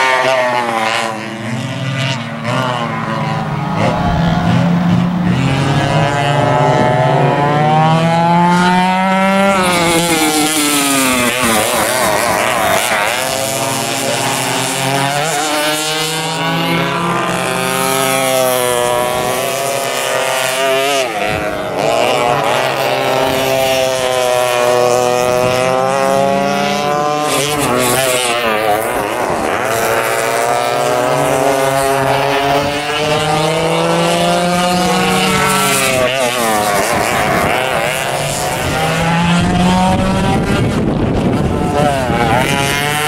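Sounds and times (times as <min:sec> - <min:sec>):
go-kart engines revving: 0:00.0 - 0:43.0.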